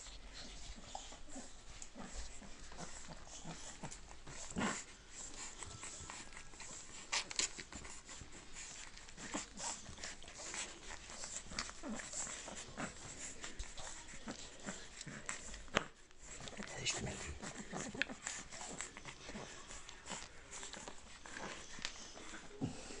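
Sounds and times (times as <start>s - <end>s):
puppies suckling: 0.0s - 23.0s
puppies whimpering: 0.0s - 23.0s.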